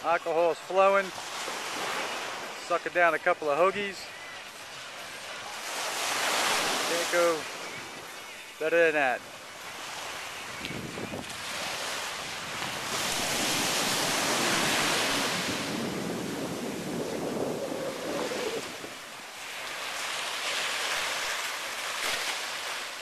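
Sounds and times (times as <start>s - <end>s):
small waves breaking on sand: 0.0s - 23.0s.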